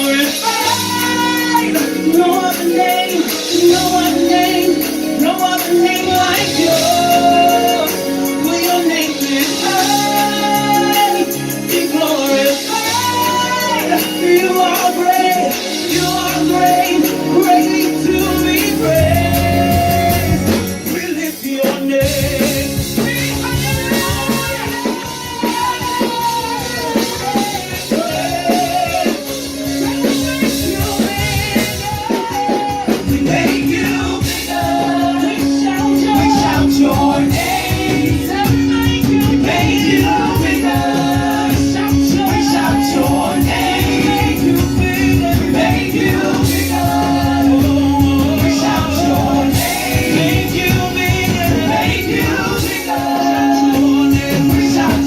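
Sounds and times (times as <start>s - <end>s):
band playing gospel song: 0.0s - 55.0s
person singing: 0.0s - 55.0s
steady drum beat: 0.0s - 55.0s.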